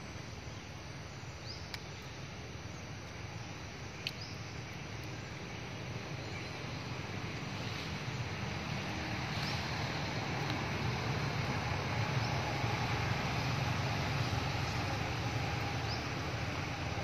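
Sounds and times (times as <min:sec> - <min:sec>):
low outdoor rumble and hiss: 0:00.0 - 0:17.0.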